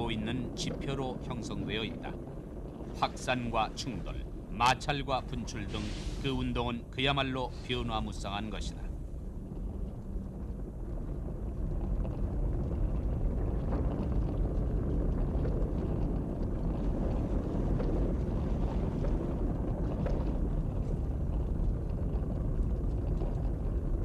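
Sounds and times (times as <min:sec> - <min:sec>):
faint crackles: 0:00.0 - 0:24.0
lava low rumble: 0:00.0 - 0:24.0.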